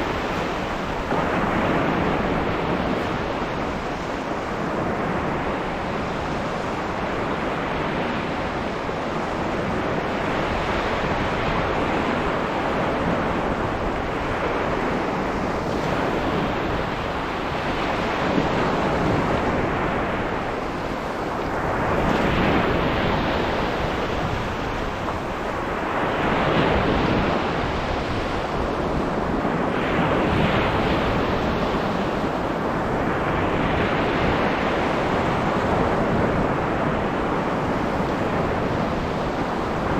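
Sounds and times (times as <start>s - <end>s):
waves breaking on sand beach: 0.0s - 39.9s
wind buffeting microphone: 0.0s - 39.9s.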